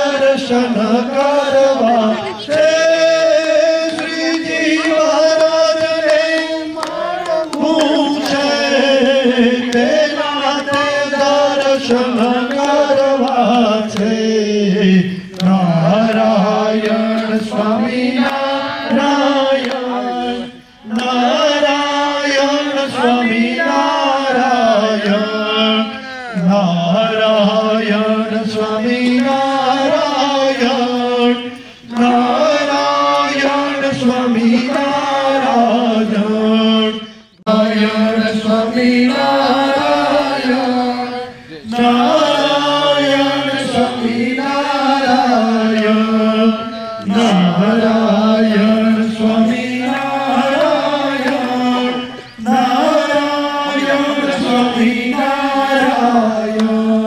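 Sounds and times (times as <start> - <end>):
person chanting mantras: 0.0 - 57.0.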